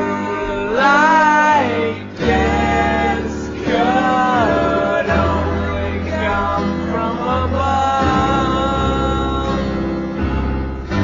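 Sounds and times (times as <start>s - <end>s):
man singing slowed song: 0.0s - 10.5s
instrumental backing: 0.0s - 11.0s.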